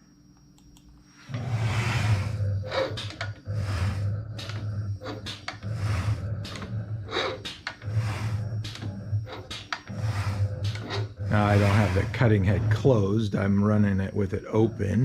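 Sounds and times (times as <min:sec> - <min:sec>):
carriage motors humming: 0:00.0 - 0:15.0
machine hiss: 0:01.1 - 0:15.0.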